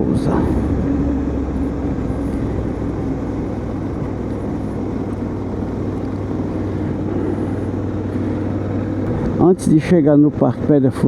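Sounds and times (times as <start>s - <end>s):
wind noise: 0.0s - 9.9s
road noise: 0.0s - 11.0s
vehicle engine hum: 0.0s - 11.0s.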